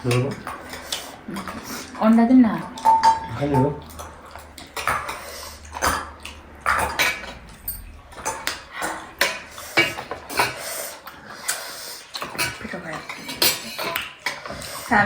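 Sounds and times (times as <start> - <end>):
cutlery clinking on dishes: 0.0 - 7.5, 9.2 - 15.0.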